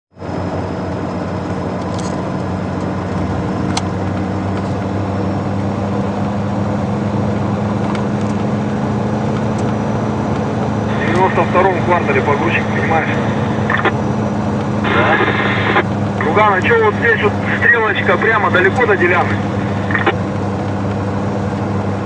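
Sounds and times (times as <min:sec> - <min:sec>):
vehicle engine running: 0:00.1 - 0:22.0.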